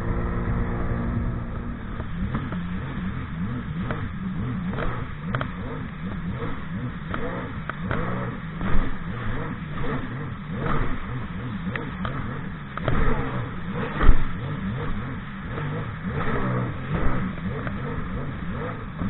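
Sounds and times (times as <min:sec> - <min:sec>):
personal watercraft engine running: 0:00.0 - 0:19.0.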